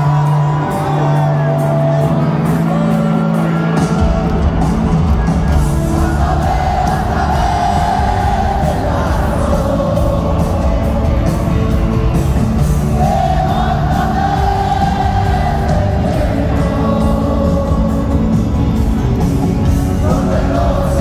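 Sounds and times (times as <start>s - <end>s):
live rock band: 0.0s - 21.0s.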